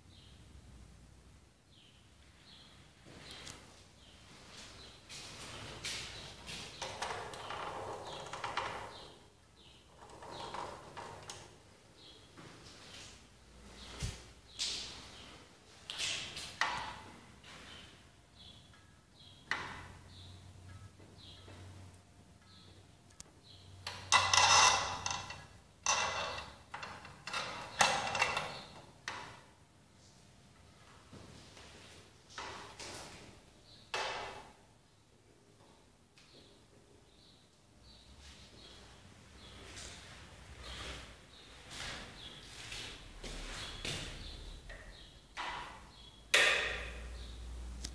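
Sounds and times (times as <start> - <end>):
low mains hum: 0.0 - 47.9.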